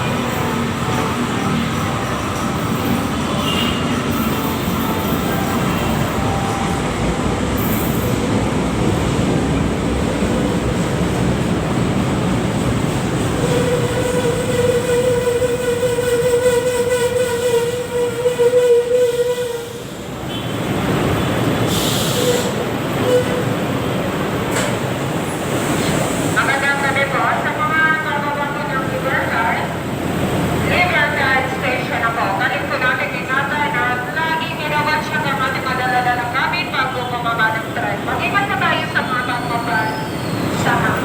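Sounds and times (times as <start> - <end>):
light rail train rumbling: 0.0 - 41.0.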